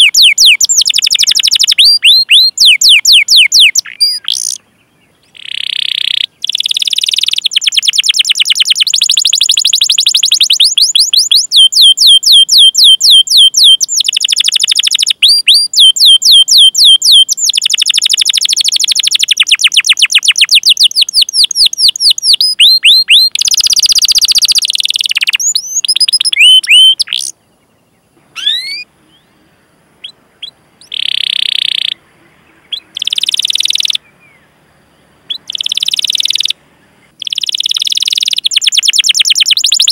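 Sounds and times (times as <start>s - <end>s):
bird chirps and harsh bursts: 0.0s - 39.9s
canary singing trills: 0.0s - 39.9s.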